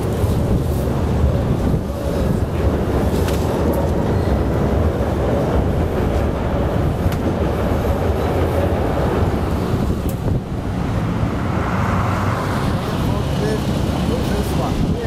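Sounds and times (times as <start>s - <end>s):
elevated train rumbling: 0.0s - 15.0s.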